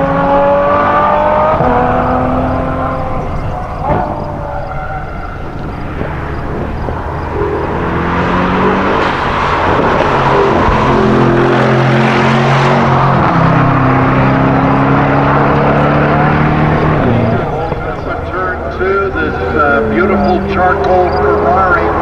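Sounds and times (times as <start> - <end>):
sports car engine accelerating: 0.0 - 22.0.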